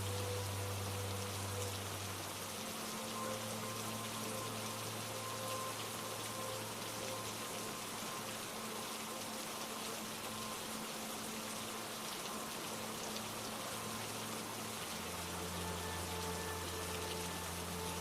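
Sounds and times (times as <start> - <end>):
soft ambient music pad: 0.0 - 18.0
steady rainfall: 0.0 - 18.0.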